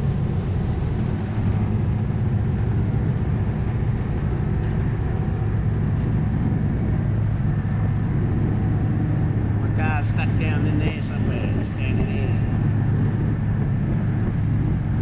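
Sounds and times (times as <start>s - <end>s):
ship engines droning: 0.0s - 15.0s
wash of noise: 0.0s - 15.0s.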